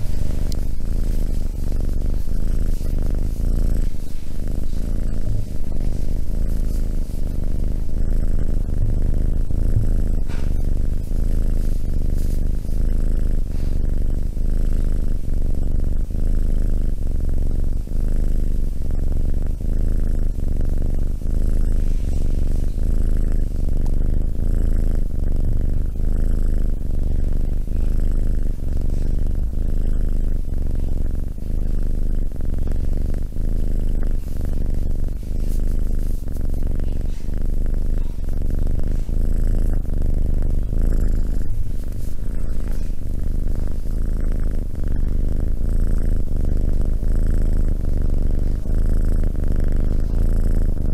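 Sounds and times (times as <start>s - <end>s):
kitten purring: 0.0s - 50.9s.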